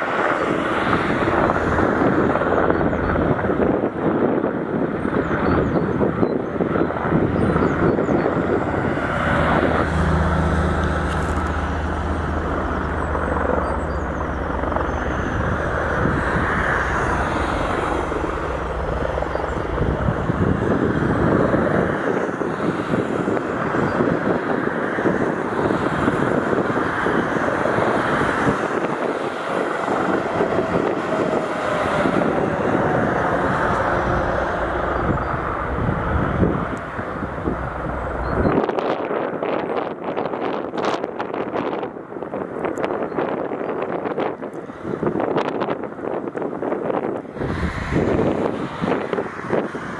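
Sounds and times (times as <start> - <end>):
gusty wind on microphone: 0.0 - 49.9
helicopter rotors and turbines: 0.0 - 49.9.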